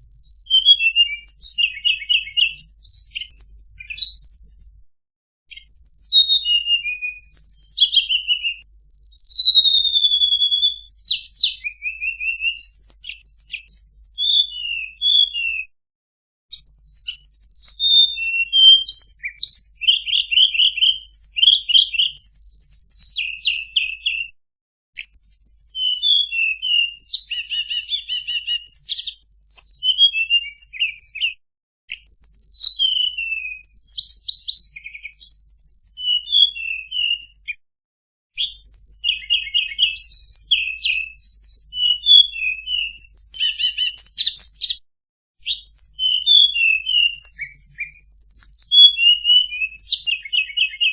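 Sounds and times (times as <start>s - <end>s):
songbird singing rapid song: 0.0s - 4.9s, 5.5s - 15.7s, 16.5s - 24.3s, 25.0s - 37.6s, 38.4s - 44.8s, 45.4s - 50.9s.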